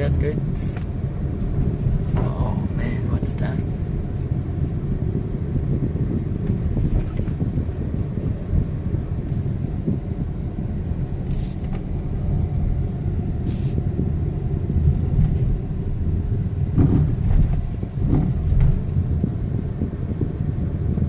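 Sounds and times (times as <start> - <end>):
car engine and road rumble: 0.0 - 21.0
car whining when accelerating: 0.0 - 21.0.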